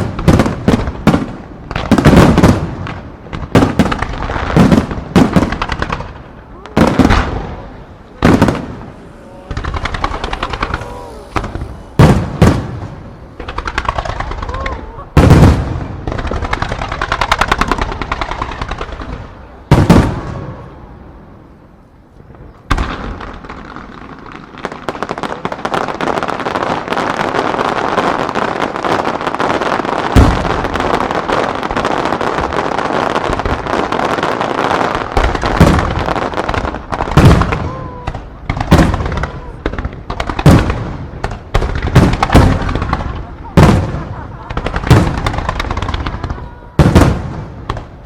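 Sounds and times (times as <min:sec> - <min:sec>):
rapid firework crackling and popping: 0:00.0 - 0:20.8, 0:21.5 - 0:48.0.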